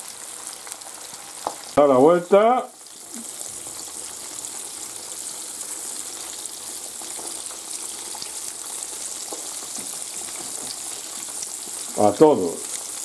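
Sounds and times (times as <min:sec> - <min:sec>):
patties sizzling in frying pan: 0:00.0 - 0:13.0.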